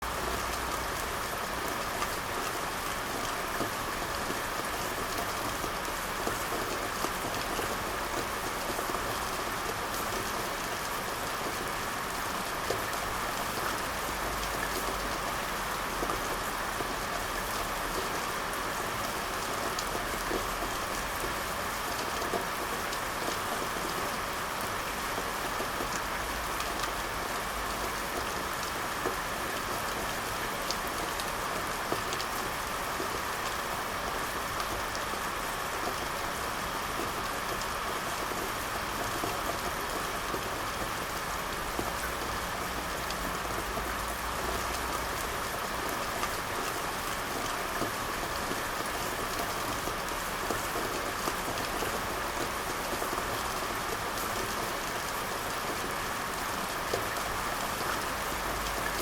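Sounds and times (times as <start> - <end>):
gentle rain hiss: 0.0 - 59.0.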